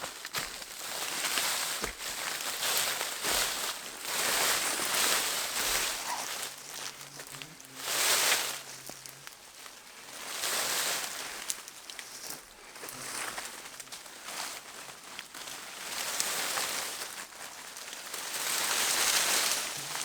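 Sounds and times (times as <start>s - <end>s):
undergrowth rustling and swishing: 0.0s - 20.0s.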